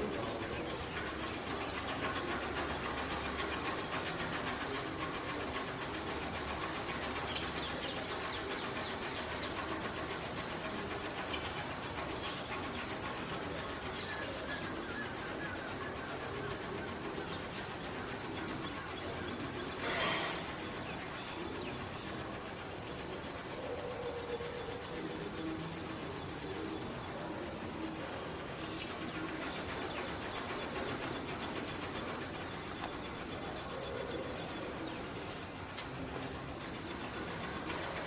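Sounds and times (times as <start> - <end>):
ambient background noise: 0.0 - 38.0.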